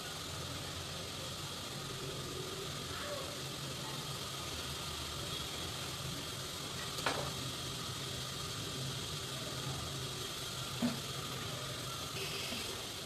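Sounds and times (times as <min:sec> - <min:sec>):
kitchen background hiss: 0:00.0 - 0:13.0.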